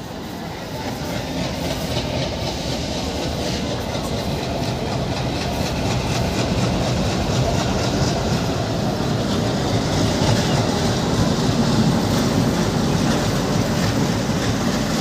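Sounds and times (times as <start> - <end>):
diesel locomotive engine chugging: 0.0 - 15.0.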